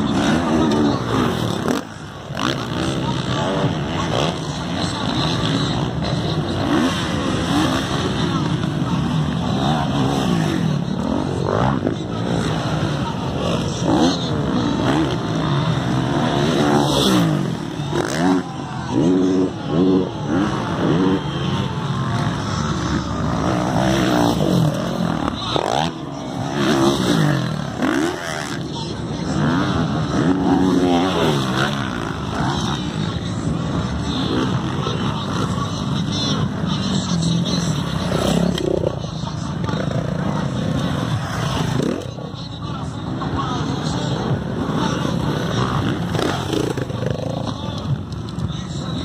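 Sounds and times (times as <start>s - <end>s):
motocross bikes revving: 0.0s - 49.0s.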